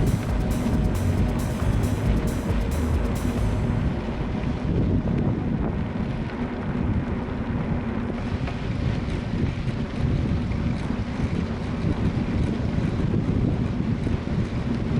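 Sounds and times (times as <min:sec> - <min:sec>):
gusty wind on microphone: 0:00.0 - 0:14.9.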